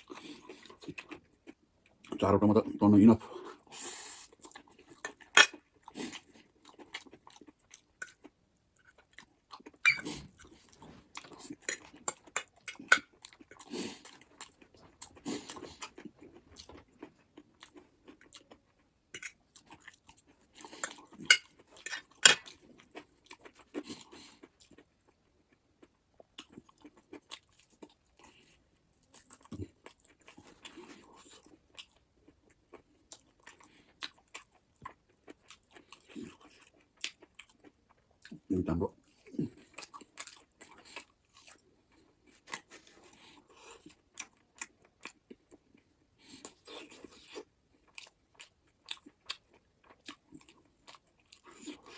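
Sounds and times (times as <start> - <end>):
chewing and crunching: 0.0 - 51.9.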